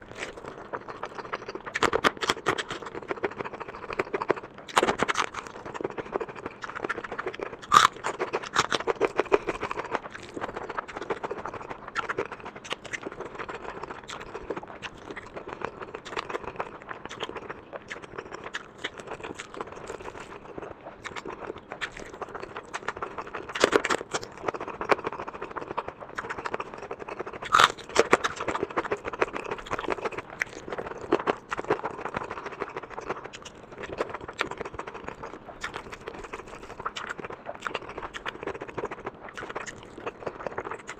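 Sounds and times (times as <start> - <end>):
wet chewing and mouth smacks: 0.0 - 40.9.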